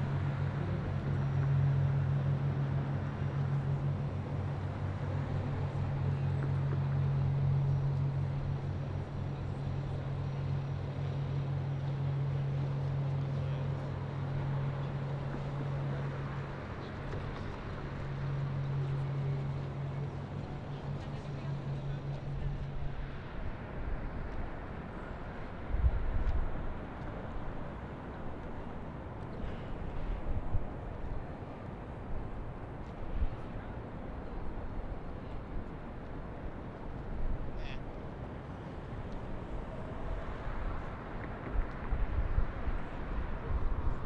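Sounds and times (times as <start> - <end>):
boat engine hum: 0.0 - 44.0
city noise: 0.0 - 44.0.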